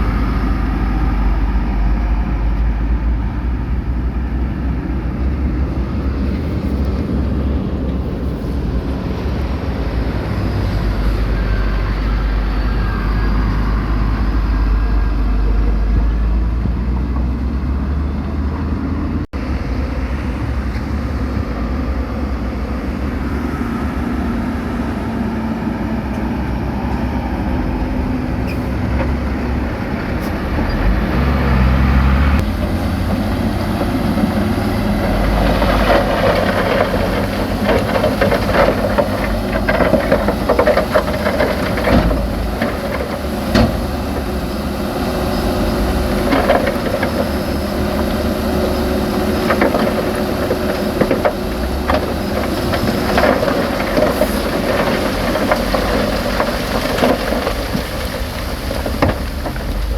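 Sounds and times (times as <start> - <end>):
heavy diesel machinery engine rumble: 0.0 - 59.9.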